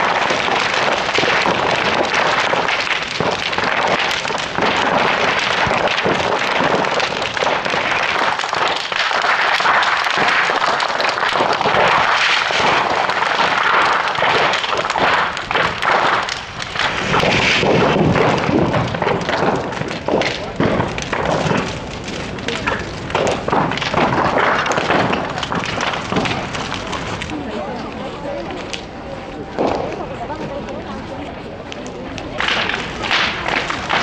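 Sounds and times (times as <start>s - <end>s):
sharp pops of burning bamboo: 0.0s - 27.3s, 31.8s - 34.0s
bonfire crackling: 0.0s - 34.0s.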